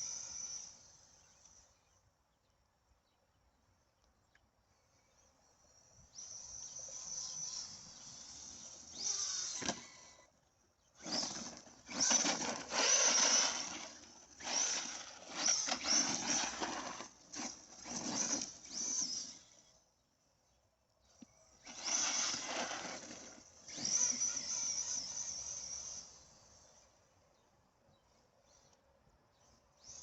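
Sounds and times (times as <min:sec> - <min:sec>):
rc truck motor throttle bursts: 0:00.0 - 0:02.2, 0:04.8 - 0:27.5, 0:29.4 - 0:30.0.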